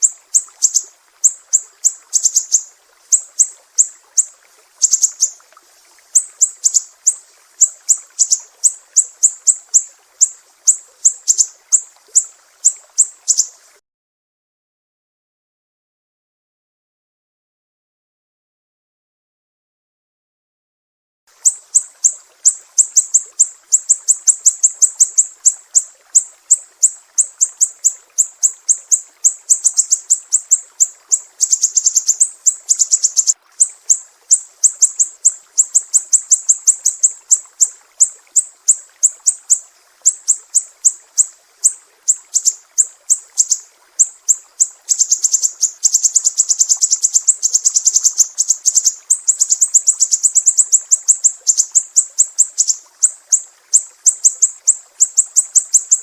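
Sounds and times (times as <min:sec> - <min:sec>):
songbird sharp high chirps: 0:00.0 - 0:05.4, 0:06.1 - 0:13.6, 0:21.4 - 0:56.0.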